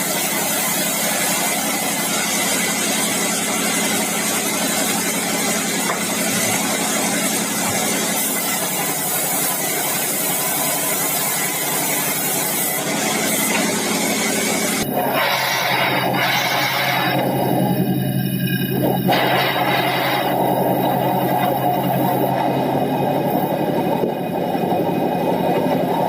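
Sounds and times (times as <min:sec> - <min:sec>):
bandsaw mill running: 0:00.0 - 0:26.0.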